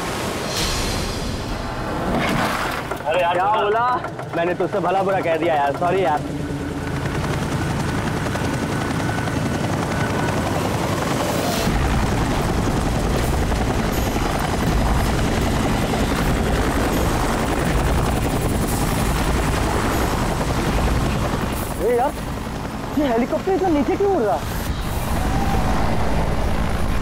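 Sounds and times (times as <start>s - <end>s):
helicopter flying low: 3.0s - 27.0s.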